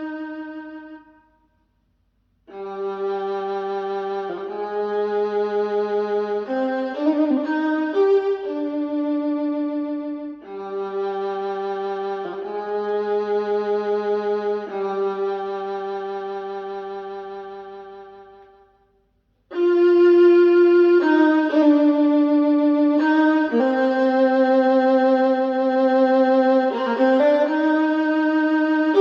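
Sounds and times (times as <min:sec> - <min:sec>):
violin music through loudspeaker: 0:00.0 - 0:01.2, 0:02.5 - 0:18.6, 0:19.5 - 0:29.0.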